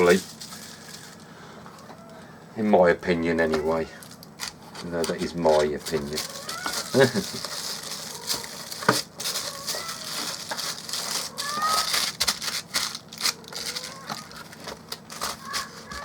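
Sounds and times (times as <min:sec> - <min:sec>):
cardboard packaging crinkling: 0:00.0 - 0:01.3, 0:03.4 - 0:16.0.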